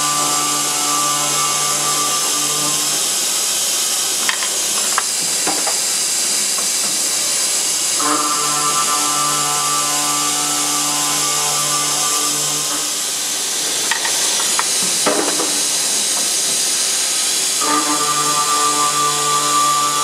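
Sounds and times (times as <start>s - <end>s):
saw cutting steel hiss: 0.0s - 20.0s.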